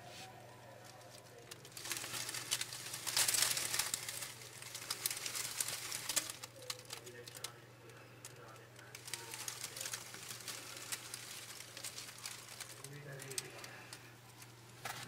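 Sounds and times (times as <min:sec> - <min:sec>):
dry leaves rustling and crackling: 0:00.3 - 0:07.6, 0:08.3 - 0:15.0.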